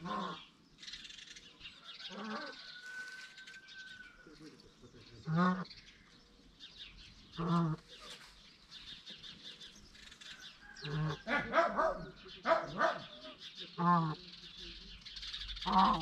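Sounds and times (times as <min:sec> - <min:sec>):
short low bird calls: 0:00.0 - 0:06.2, 0:06.8 - 0:16.0
small birds twittering: 0:00.0 - 0:16.0.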